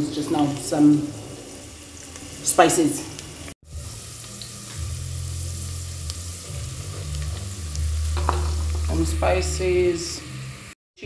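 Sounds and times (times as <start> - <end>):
vegetables sizzling in a pot: 0.0 - 10.8.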